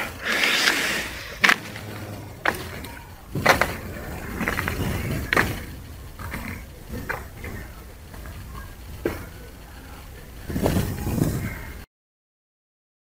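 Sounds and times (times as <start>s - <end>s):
rustling: 0.0s - 11.8s.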